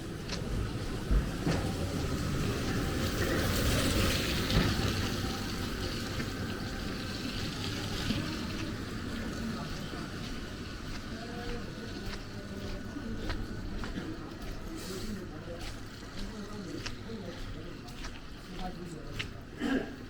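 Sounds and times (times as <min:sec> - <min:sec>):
rain hissing on wet pavement: 0:00.0 - 0:20.0.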